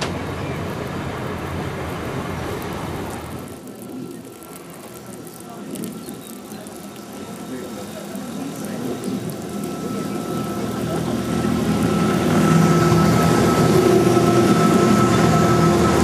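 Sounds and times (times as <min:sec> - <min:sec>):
electric train motors whining: 0:00.0 - 0:16.0.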